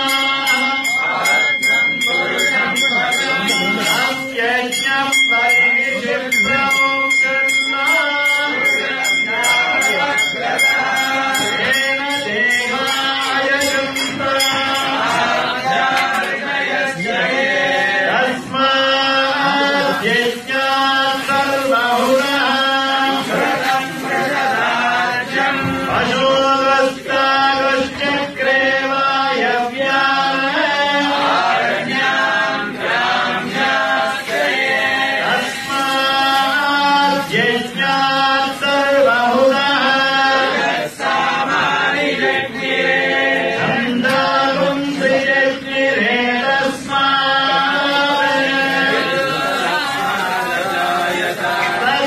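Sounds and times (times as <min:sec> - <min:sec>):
men chanting in unison: 0:00.0 - 0:52.0.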